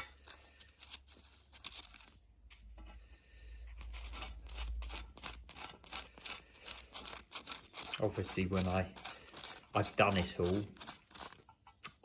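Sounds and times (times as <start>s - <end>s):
screwdriver scraping and clicking metal: 0.0s - 2.1s, 4.0s - 12.0s.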